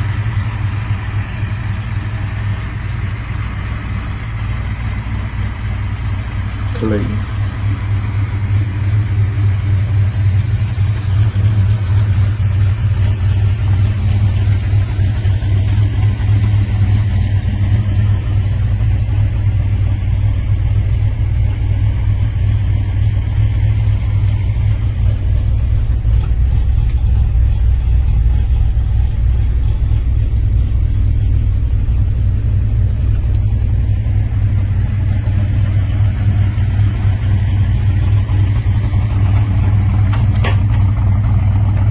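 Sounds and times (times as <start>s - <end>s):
muscle car engine rumble: 0.0s - 41.9s.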